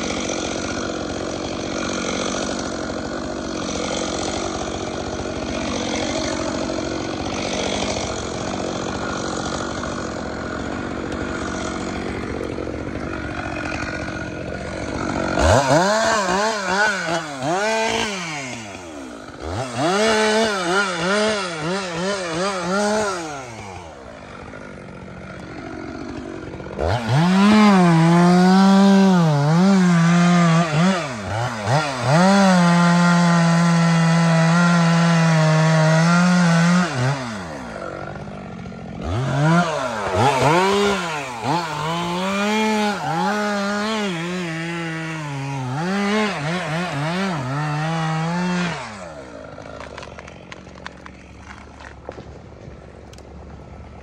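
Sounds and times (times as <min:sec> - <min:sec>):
chainsaw cutting wood: 0:00.0 - 0:54.0
chainsaw revving: 0:00.0 - 0:54.0.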